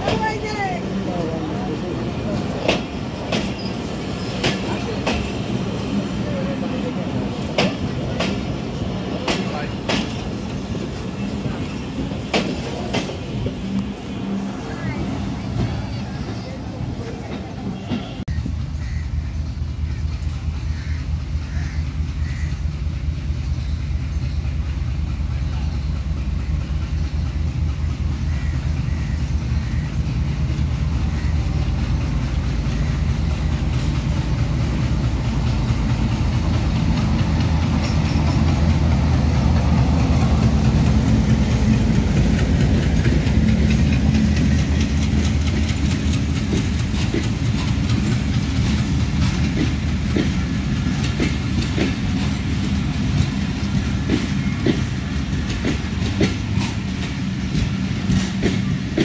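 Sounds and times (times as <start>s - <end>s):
diesel locomotive engine drone: 0.0s - 59.0s
train wheels clicking on rail joints: 0.0s - 59.0s.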